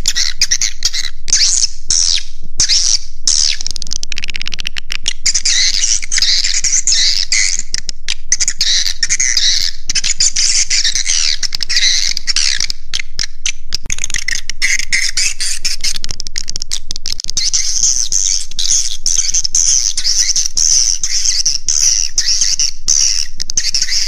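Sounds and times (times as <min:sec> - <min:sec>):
swiftlets twittering and chirping: 0:00.0 - 0:04.4, 0:05.0 - 0:24.0.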